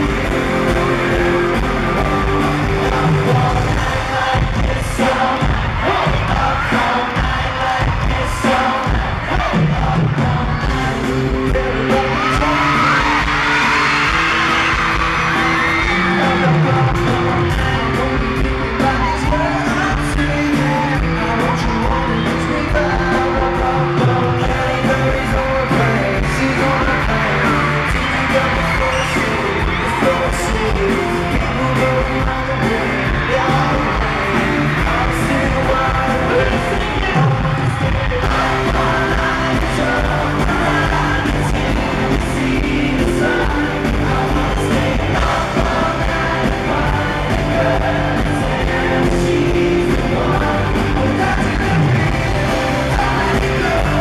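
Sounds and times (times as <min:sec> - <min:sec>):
bass guitar: 0:00.0 - 0:54.0
electric guitar: 0:00.0 - 0:54.0
fans screaming: 0:00.0 - 0:54.0
lead vocals singing: 0:00.0 - 0:54.0
steady drum beat: 0:00.0 - 0:54.0.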